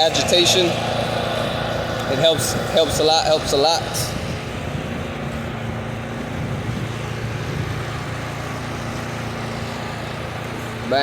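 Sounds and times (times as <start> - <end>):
pressure washer engine droning: 0.0 - 11.0.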